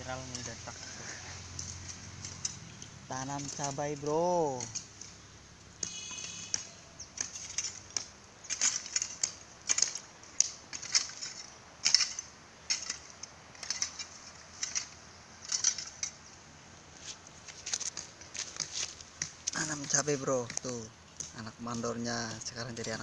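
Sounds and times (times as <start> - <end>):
straw and soil crunching: 0.0 - 23.0.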